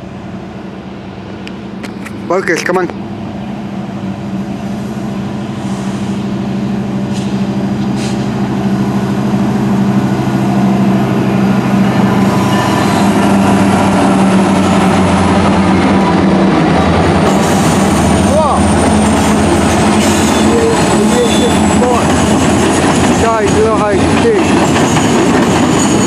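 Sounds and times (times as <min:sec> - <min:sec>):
diesel locomotive engine drone: 0:00.0 - 0:26.0
train rumble and clatter: 0:00.0 - 0:26.0.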